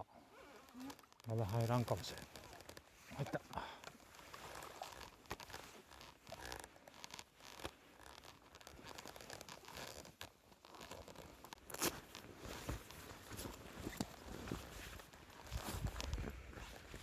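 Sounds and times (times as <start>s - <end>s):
gear rustling and scraping: 0.3s - 17.0s.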